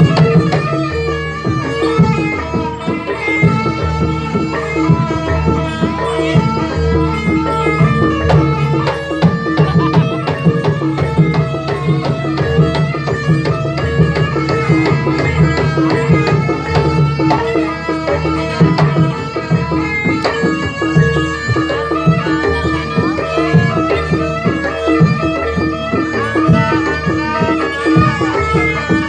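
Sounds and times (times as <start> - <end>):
hand drum strokes: 0.0 - 29.0
tuned gamelan percussion: 0.0 - 29.0.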